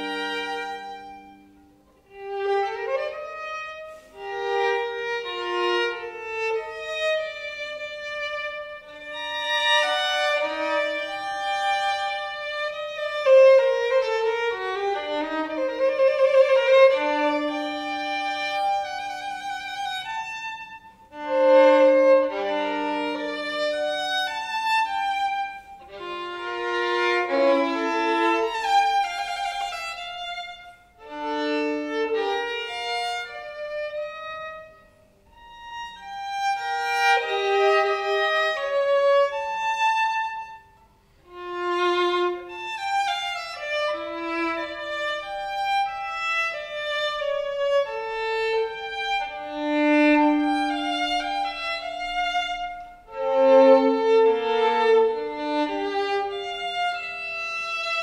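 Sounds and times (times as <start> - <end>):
violin playing fast passage: 2.1 - 34.7, 35.4 - 40.7, 41.3 - 58.0.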